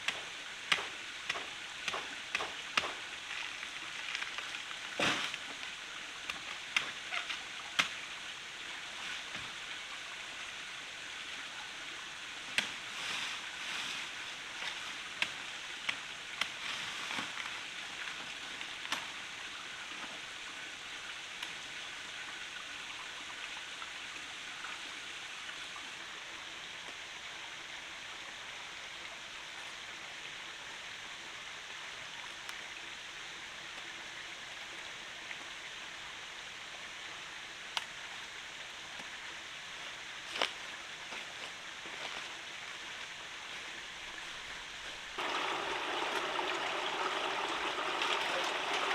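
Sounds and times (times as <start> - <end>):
forest stream rushing: 0.0 - 48.9.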